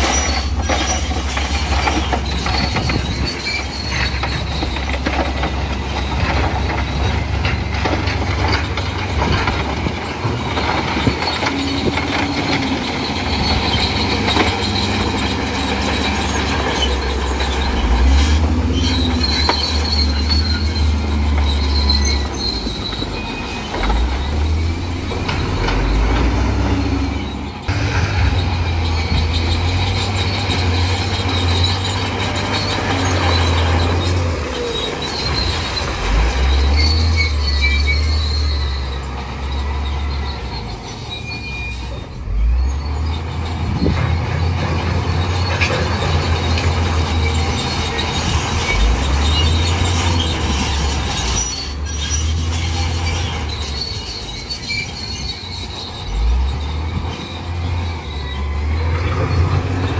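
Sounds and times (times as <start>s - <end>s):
bulldozer diesel engine under load: 0.0s - 59.9s
steel tracks squealing: 0.0s - 59.9s.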